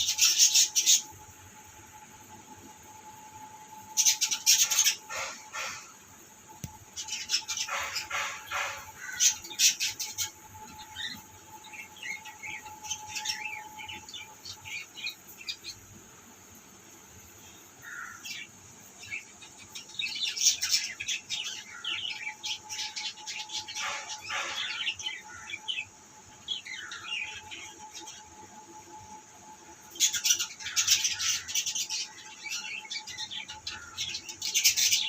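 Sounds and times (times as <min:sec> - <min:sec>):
birds chirping: 0:03.8 - 0:35.0.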